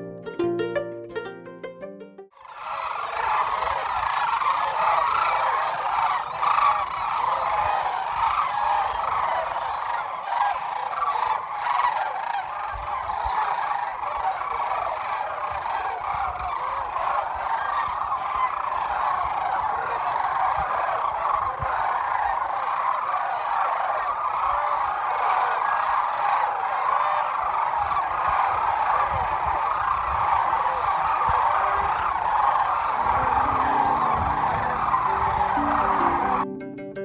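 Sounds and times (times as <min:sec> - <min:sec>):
flock of cranes calling: 0:02.4 - 0:36.6.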